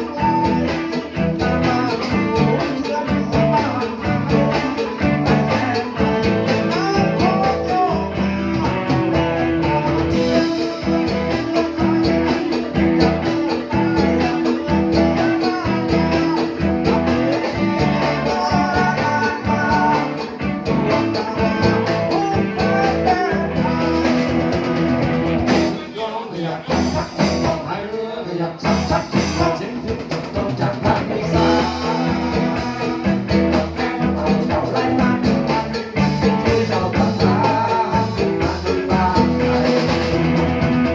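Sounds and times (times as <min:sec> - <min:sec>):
live band with guitar: 0:00.0 - 0:40.9
person singing: 0:00.0 - 0:40.9.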